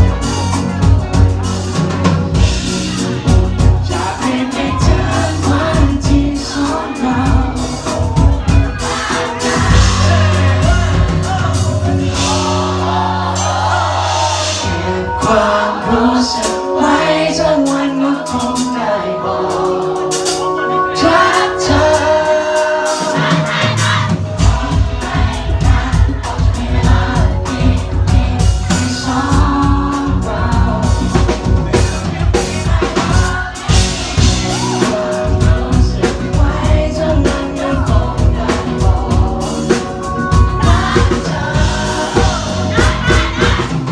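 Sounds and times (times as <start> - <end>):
man singing: 0.0 - 12.7, 14.6 - 43.9
live pop band: 0.0 - 43.9.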